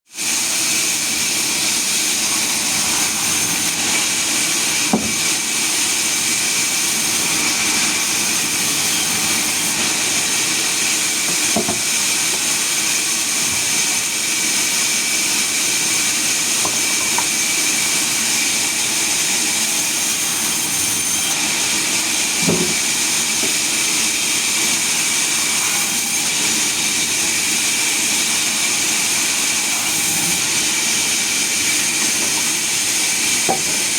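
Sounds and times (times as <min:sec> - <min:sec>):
sawmill whining: 0:00.2 - 0:33.9.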